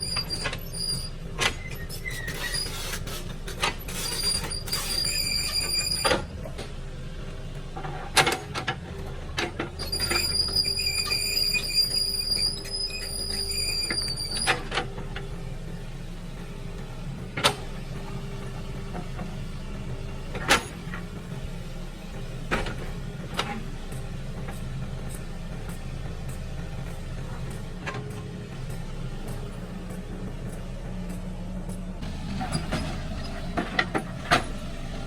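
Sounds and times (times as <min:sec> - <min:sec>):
excavator engine drone: 0:00.0 - 0:35.0.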